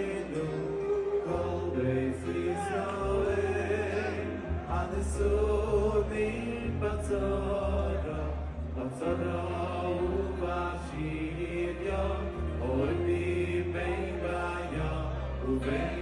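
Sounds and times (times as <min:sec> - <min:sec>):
bass line: 0:00.0 - 0:16.0
crowd of men singing along: 0:00.0 - 0:16.0
man singing into a microphone: 0:00.0 - 0:16.0.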